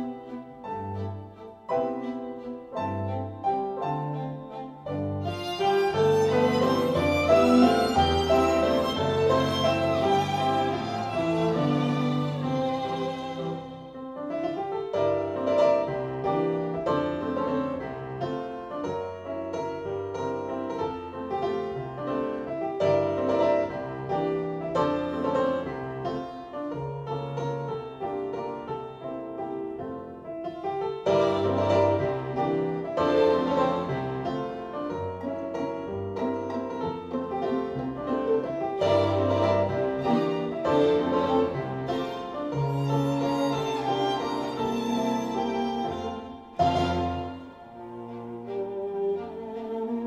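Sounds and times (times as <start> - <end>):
bowed string instrument: 0.0 - 50.0
piano music from a record: 0.0 - 50.0.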